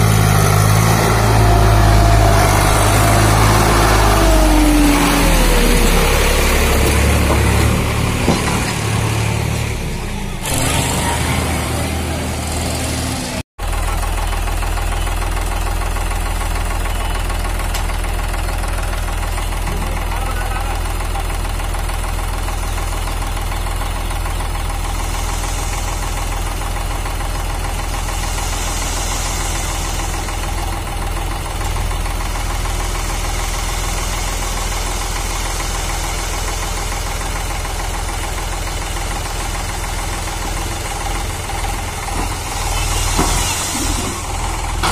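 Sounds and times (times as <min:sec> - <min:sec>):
diesel tractor engine clattering: 0:00.0 - 0:44.9.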